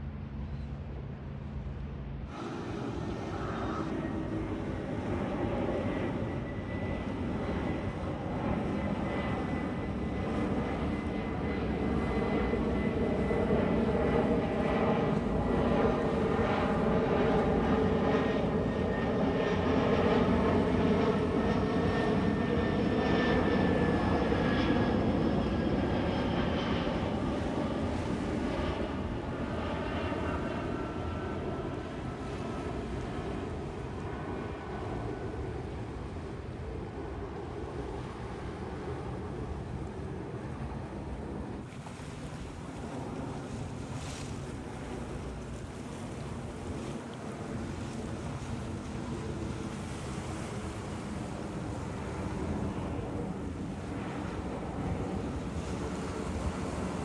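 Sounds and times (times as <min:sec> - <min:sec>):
aircraft engines passing by: 0:00.0 - 0:57.0.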